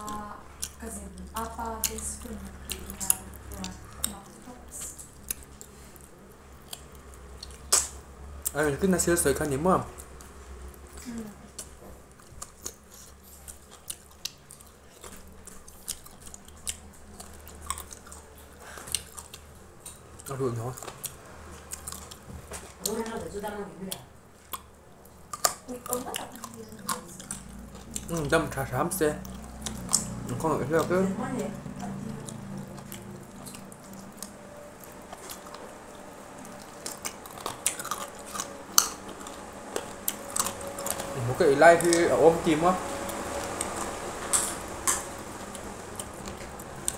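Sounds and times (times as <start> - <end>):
chewing mouth clicks and smacks: 0.0 - 8.8, 9.4 - 23.2, 23.9 - 31.0, 31.8 - 41.2.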